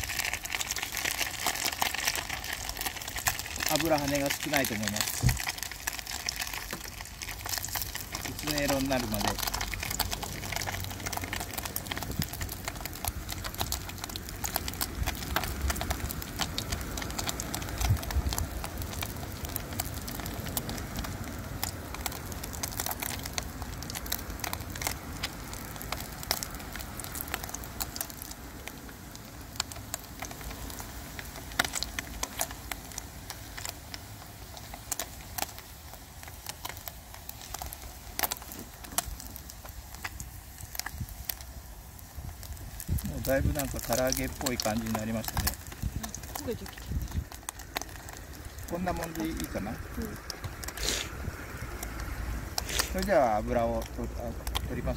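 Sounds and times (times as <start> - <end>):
fish deep-frying in hot oil: 0.0 - 54.9.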